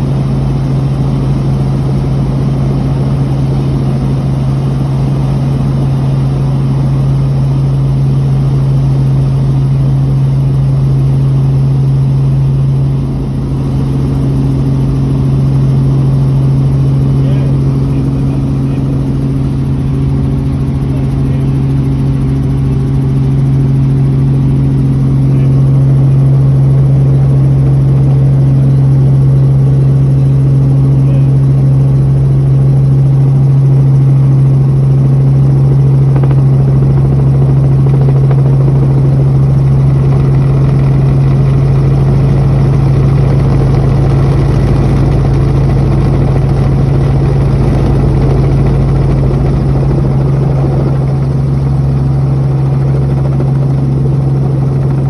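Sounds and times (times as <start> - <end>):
helicopter running: 0.0 - 55.0.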